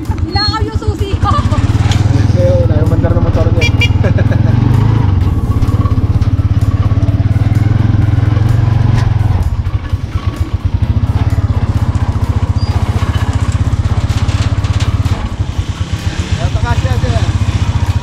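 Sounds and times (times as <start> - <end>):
motorcycle engine thrumming: 0.0 - 18.0.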